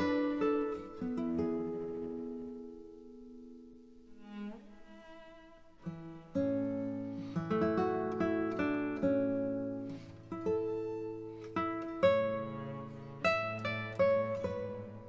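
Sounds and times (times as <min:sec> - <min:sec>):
plucked string instrument melody: 0:00.0 - 0:15.0.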